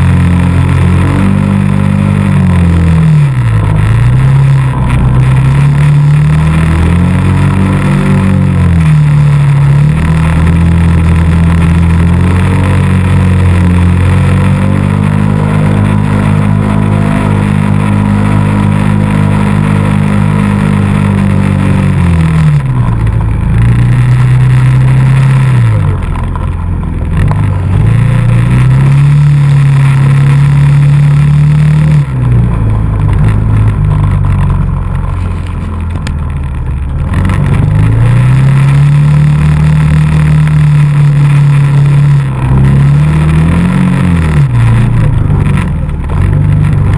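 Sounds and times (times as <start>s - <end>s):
atv engine revving: 0.0s - 46.9s.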